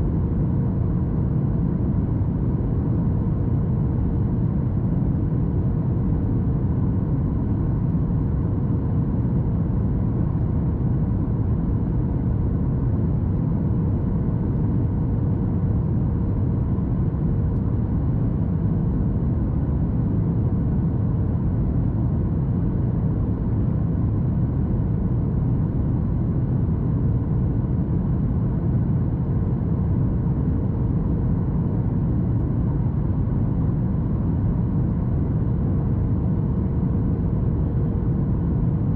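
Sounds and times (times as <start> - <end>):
airplane cabin rumble: 0.0 - 38.9
faint steady hum: 0.0 - 38.9.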